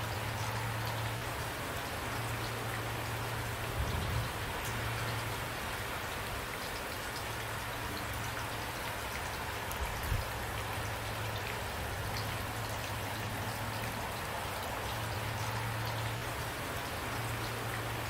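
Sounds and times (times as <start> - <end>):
rain drops striking a surface: 0.0 - 18.0.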